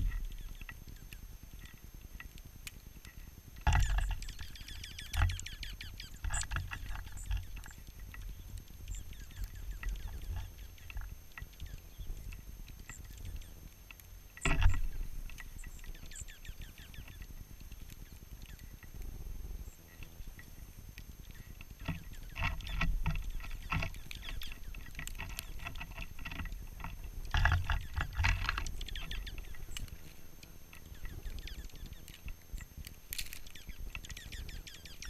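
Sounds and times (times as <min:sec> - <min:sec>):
bird pecking seed: 0:00.0 - 0:35.0.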